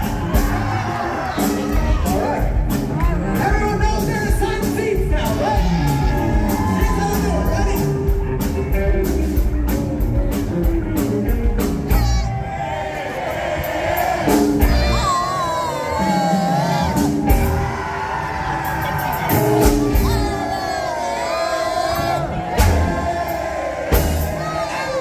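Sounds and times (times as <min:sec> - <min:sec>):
steady drum beat: 0:00.0 - 0:12.4, 0:13.3 - 0:20.9, 0:21.9 - 0:25.0
live rock band playing: 0:00.0 - 0:12.7, 0:13.3 - 0:25.0.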